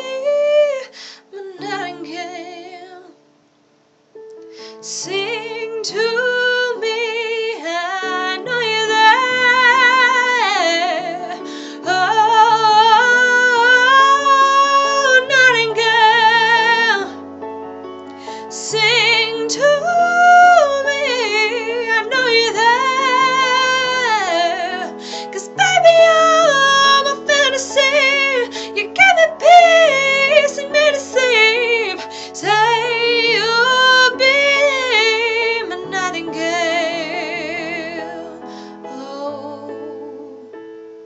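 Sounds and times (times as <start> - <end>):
woman singing with vibrato: 0.0 - 3.2, 4.8 - 17.2, 18.4 - 40.6
instrumental backing track: 3.3 - 4.9, 8.1 - 41.0.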